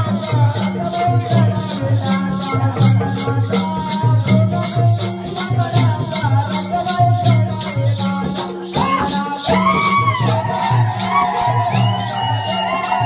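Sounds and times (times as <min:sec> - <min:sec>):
rattling shaker: 0:00.0 - 0:13.0
repeating drum beat: 0:00.0 - 0:13.0.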